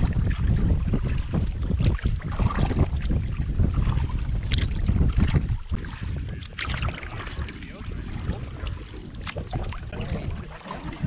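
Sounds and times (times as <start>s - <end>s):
water lapping against canoe hull: 0.0s - 11.0s
wind buffeting microphone: 0.0s - 11.0s.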